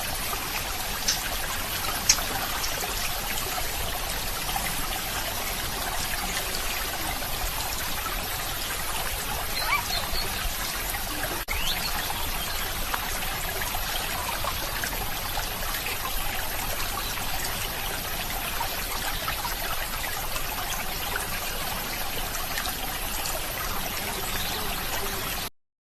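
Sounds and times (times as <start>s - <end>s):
water trickling and flowing: 0.0s - 25.5s.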